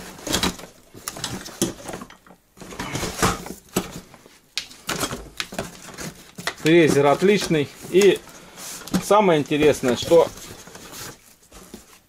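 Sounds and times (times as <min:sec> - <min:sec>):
tool settling in cardboard box: 0:00.0 - 0:04.2, 0:04.8 - 0:12.0.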